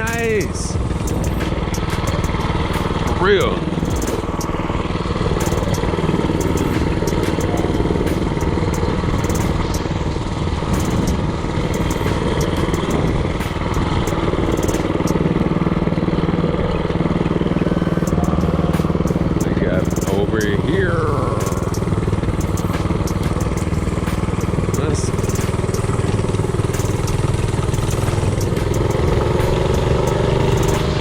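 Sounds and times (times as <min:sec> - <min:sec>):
mini-bike engine running: 0:00.0 - 0:31.0.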